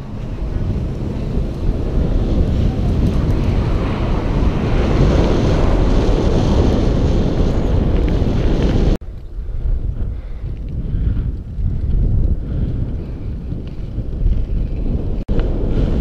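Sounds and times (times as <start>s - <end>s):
bike tyres rolling over gravel: 0.0s - 16.0s
wind buffeting microphone: 0.0s - 16.0s.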